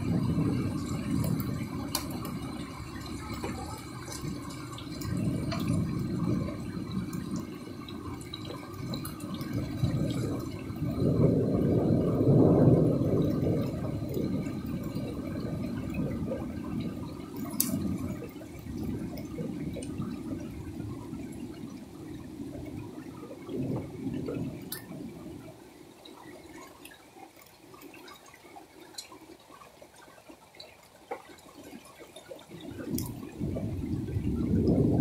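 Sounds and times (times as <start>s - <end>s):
rain pouring: 0.0s - 35.0s
sharp drip-like ticks: 0.0s - 35.0s.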